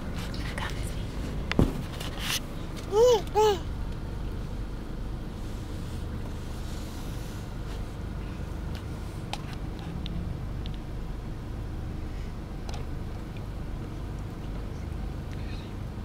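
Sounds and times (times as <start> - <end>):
car engine rumble in cabin: 0.0 - 16.0.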